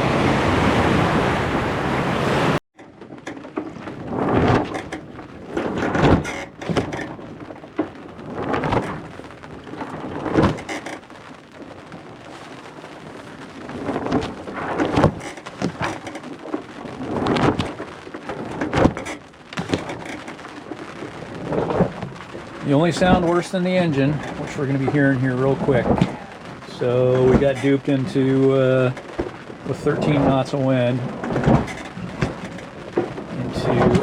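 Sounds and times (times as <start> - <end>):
sails flapping: 0.0 - 34.0.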